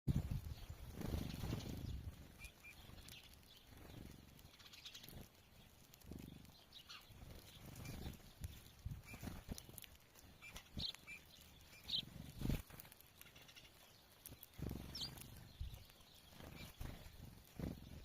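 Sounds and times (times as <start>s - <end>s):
birds chirping: 0.1s - 18.0s.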